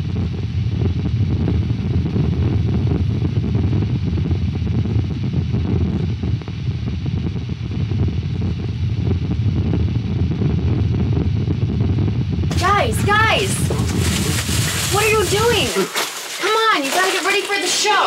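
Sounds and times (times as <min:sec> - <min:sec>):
loud low rumbling: 0:00.0 - 0:15.7.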